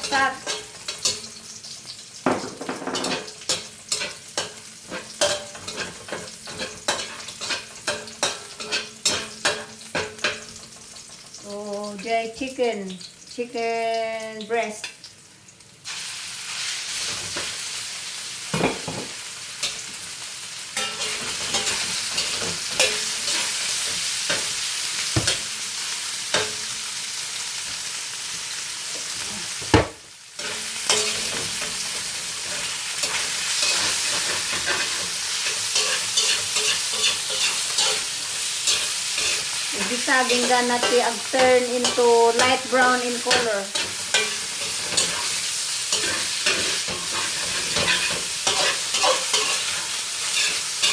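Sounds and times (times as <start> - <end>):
chicken sizzling in a wok: 0.0 - 50.9.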